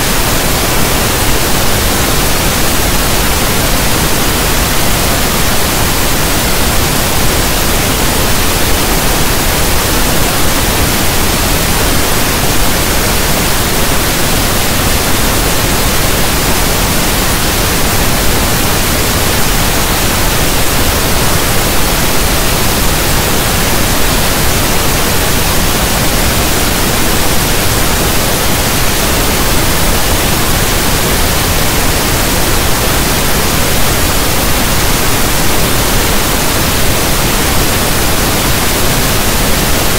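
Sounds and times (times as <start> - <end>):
soft static noise: 0.0 - 39.9.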